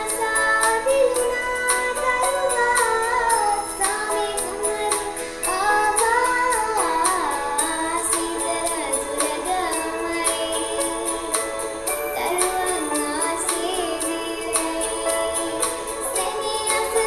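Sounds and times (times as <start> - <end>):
backing music: 0.0 - 17.0
girl singing a carol: 0.0 - 17.0
ticking high percussion beat: 0.0 - 17.0.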